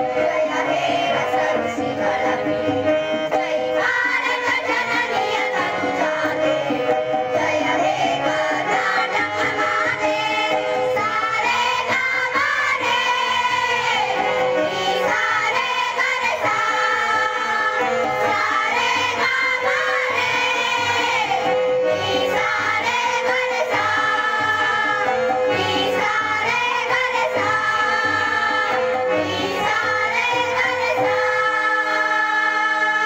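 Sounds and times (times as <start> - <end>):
children singing in unison: 0.0 - 33.0.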